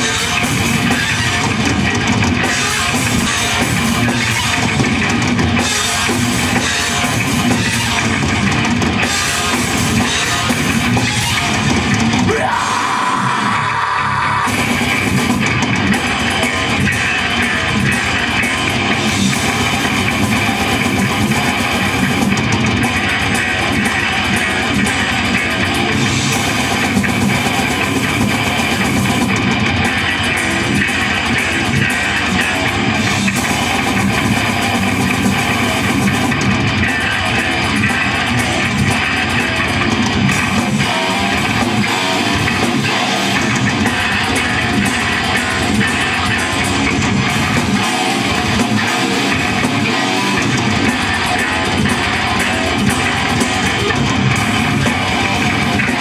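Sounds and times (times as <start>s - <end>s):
distorted electric guitars: 0.0s - 56.0s
drum kit: 0.0s - 56.0s.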